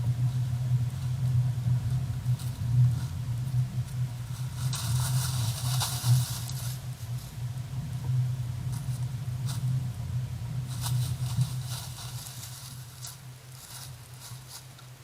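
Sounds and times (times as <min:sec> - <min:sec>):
faint rustling crackles: 0:00.0 - 0:15.0
steady low hum: 0:00.0 - 0:15.0.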